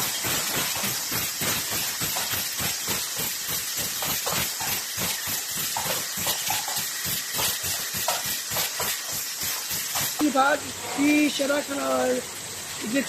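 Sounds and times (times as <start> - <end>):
pneumatic air hiss: 0.0 - 11.2
machinery and cans clattering: 0.0 - 11.4.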